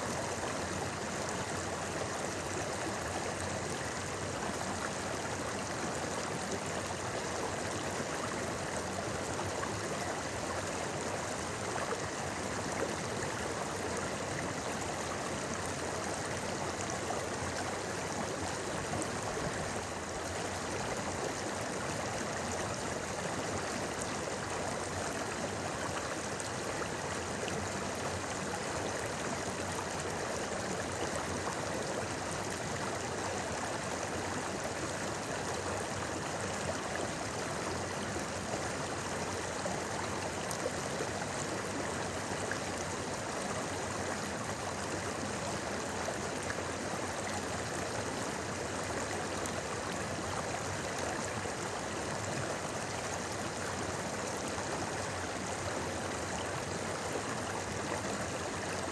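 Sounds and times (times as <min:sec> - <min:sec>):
river babbling: 0:00.1 - 0:58.9.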